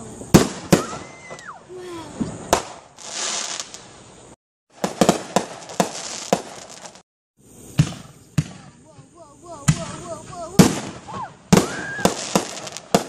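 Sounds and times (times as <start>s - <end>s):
firework bangs: 0.0s - 4.0s, 4.7s - 13.0s
firework crackling hiss: 0.0s - 13.0s.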